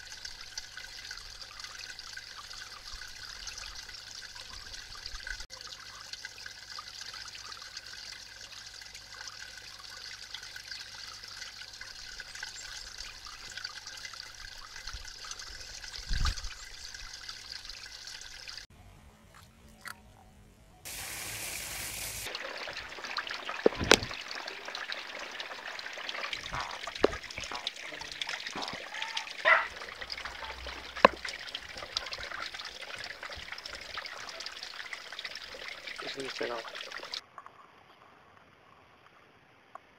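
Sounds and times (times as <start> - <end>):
water trickling into pond: 0.0 - 18.7, 20.8 - 39.4.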